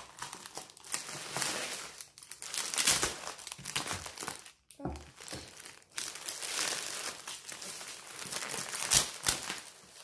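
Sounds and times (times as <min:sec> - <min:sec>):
plastic packaging crinkling: 0:00.0 - 0:10.0
sharp plastic crackles: 0:00.0 - 0:10.0.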